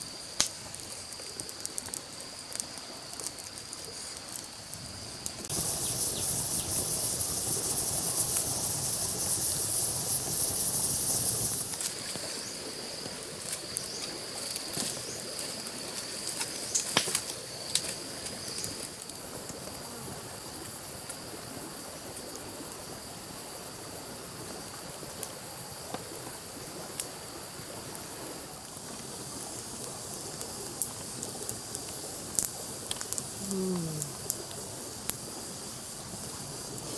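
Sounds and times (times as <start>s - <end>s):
wood fire crackling and popping: 0.0s - 22.9s, 24.4s - 36.9s
insects buzzing: 0.0s - 36.9s.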